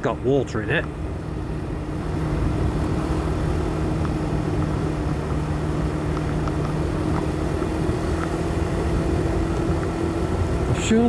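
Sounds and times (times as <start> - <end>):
motorcycle engine hum: 0.0 - 11.0
wind noise: 1.1 - 11.0.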